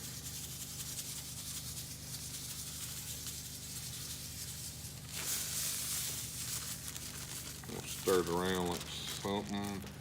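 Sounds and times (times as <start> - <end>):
salt pouring into a bin: 0.0 - 9.8.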